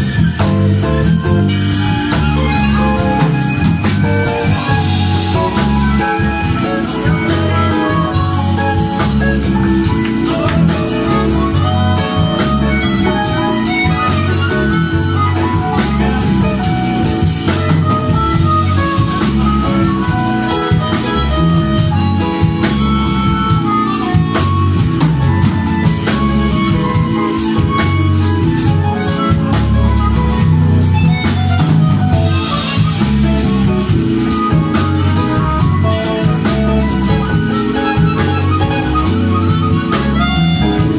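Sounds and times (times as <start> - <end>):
harmonica lead: 0.0 - 40.9
live jazz band playing: 0.0 - 40.9.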